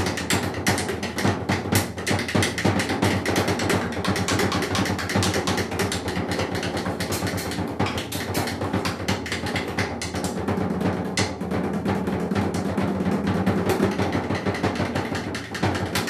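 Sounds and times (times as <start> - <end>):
improvised percussion strikes: 0.0 - 16.0.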